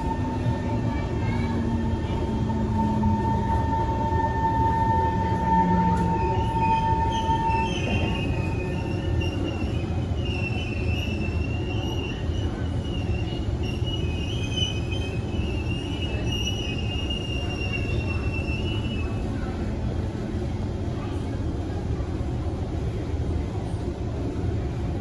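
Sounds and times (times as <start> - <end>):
train running gear rumble: 0.0 - 25.0.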